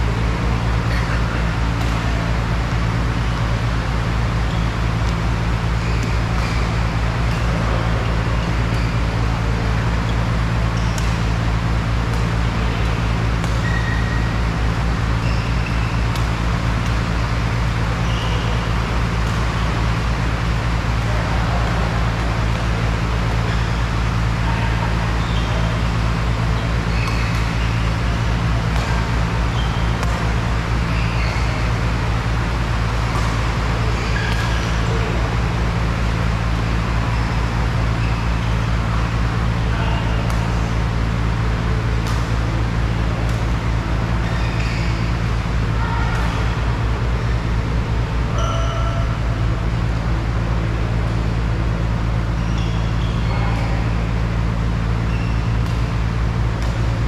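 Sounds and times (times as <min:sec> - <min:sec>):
court shoes squeaking: 0:00.0 - 0:57.0
steady low hum: 0:00.0 - 0:57.0
rackets hitting shuttlecock: 0:00.1 - 0:47.5, 0:52.3 - 0:57.0.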